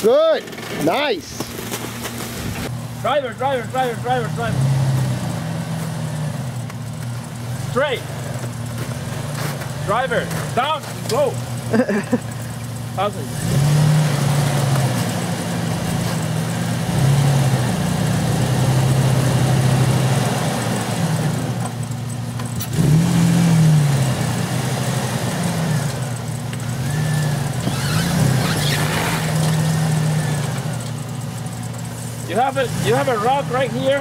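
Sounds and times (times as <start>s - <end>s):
engine running at low speed: 0.5s - 34.0s.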